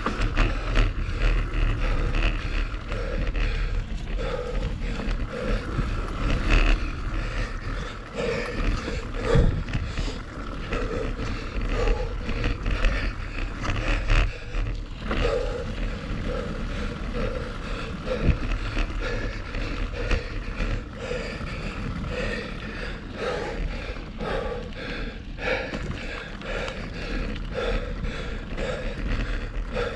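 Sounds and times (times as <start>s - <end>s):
bike rattling over bumps: 0.0s - 29.9s
bike tyres rumbling over dirt: 0.0s - 29.9s
wind buffeting microphone: 0.0s - 29.9s.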